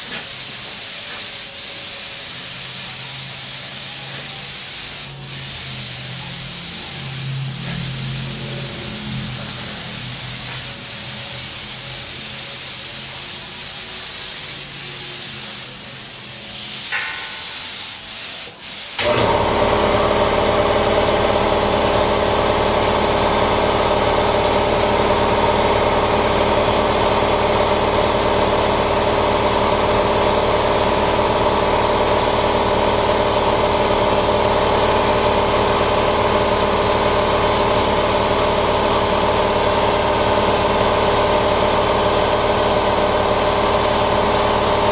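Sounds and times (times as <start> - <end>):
paint spray gun hissing: 0.0 - 8.6, 9.5 - 44.9.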